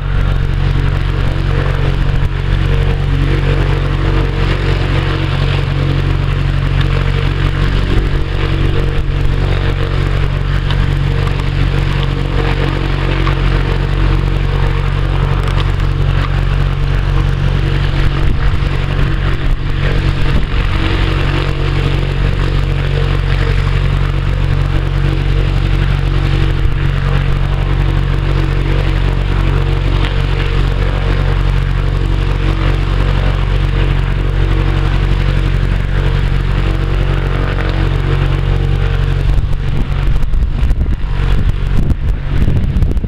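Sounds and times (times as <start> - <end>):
piston aircraft engine and propeller: 0.0 - 43.0
wind buffeting microphone: 0.0 - 43.0.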